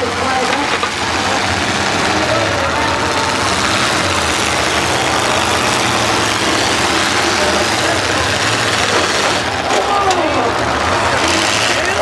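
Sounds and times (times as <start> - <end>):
loud rough car engines: 0.0 - 12.0.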